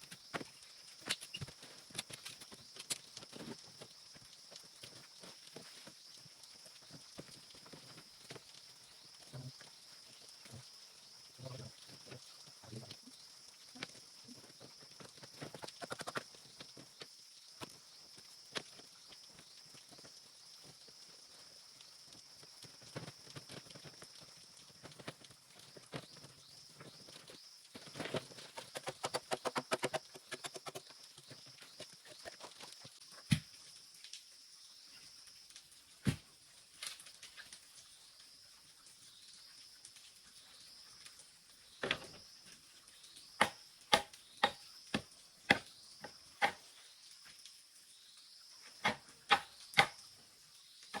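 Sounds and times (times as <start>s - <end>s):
insects trilling: 0.0s - 35.9s, 37.3s - 51.0s.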